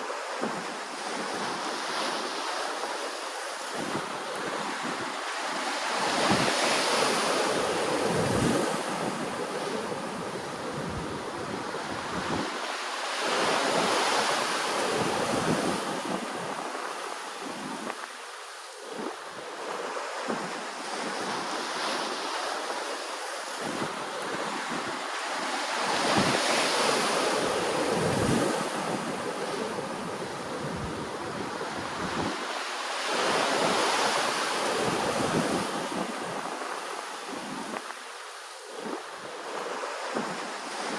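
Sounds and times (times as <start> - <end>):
ocean waves washing ashore: 0.0 - 40.9
wind rumble on microphone: 0.0 - 40.9.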